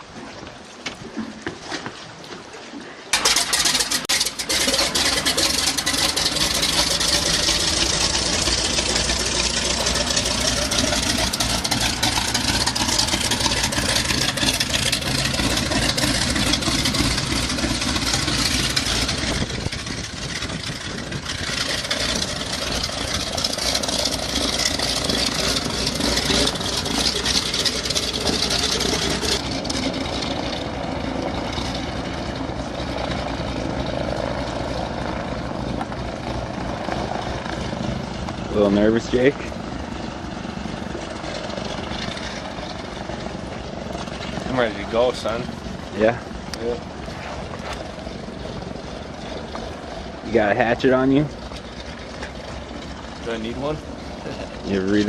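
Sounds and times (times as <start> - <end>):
propeller plane engine drone: 2.8 - 55.0.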